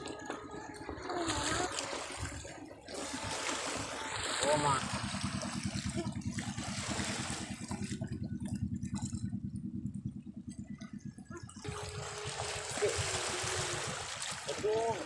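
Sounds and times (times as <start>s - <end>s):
sea water lapping over rocks: 0.0s - 9.8s, 10.6s - 15.0s
low rapid throbbing: 0.0s - 14.7s.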